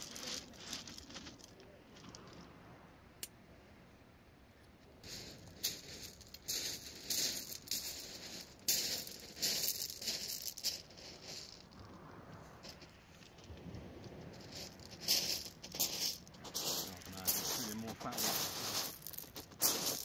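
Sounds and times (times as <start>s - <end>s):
footsteps crunching on shingle: 0.0s - 2.4s, 5.0s - 11.8s, 12.6s - 20.0s.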